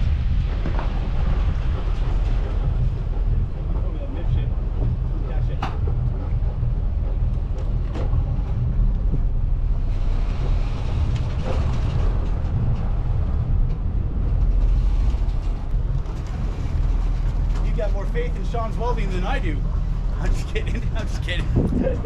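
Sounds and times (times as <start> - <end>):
boat engine rumble: 0.0 - 22.0.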